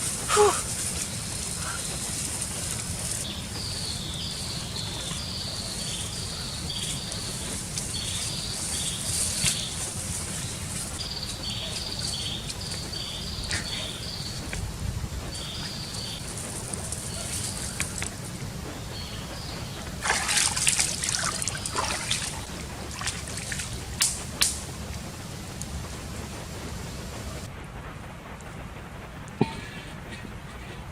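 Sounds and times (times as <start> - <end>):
low background noise: 0.0 - 30.9.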